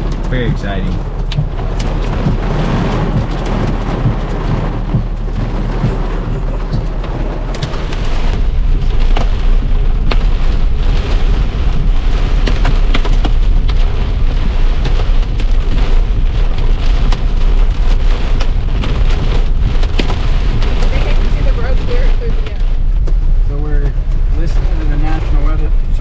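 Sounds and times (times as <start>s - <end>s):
hail and heavy rain on vehicle: 0.0s - 26.0s.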